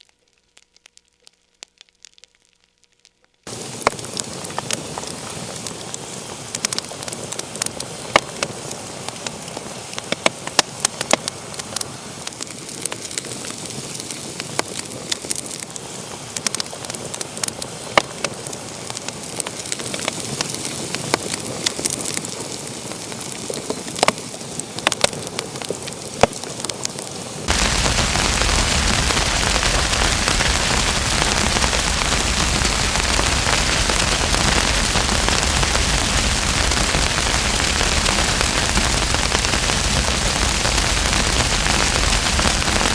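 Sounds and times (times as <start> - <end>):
wood fire crackling and popping: 0.0 - 42.9
steady hiss: 3.5 - 42.9.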